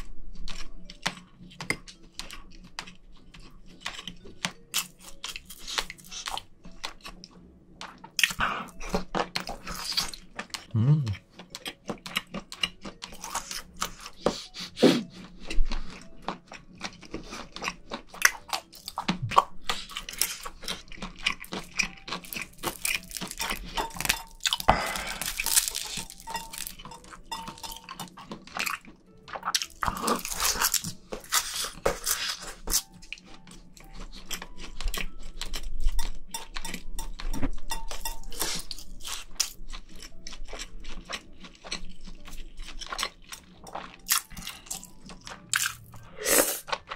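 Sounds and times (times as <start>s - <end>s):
person chewing and crunching: 0.0s - 46.9s.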